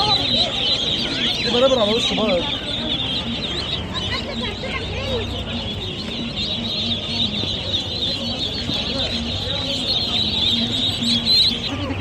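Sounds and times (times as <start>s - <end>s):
murmur of voices: 0.0s - 12.0s
poultry chirping and peeping: 0.0s - 12.0s
poultry clucking: 0.0s - 12.0s.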